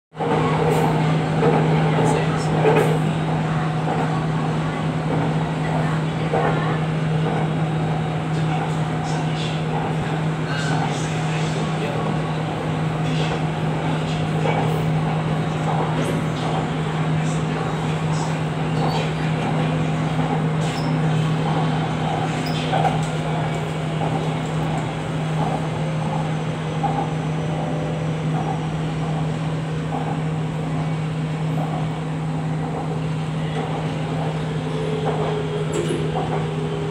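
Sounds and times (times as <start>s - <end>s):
train low hum: 0.1s - 36.9s.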